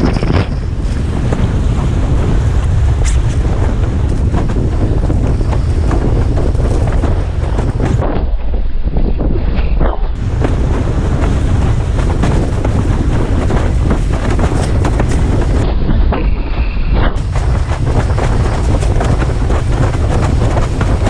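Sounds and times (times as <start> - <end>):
water rushing under a board: 0.0 - 8.5, 10.1 - 16.4, 17.0 - 21.0
wind buffeting microphone: 0.0 - 21.0.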